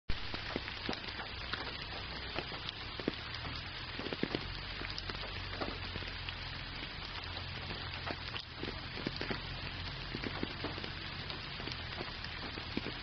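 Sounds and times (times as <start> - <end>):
raindrops ticking: 0.1 - 13.0
steady rain hiss: 0.1 - 13.0.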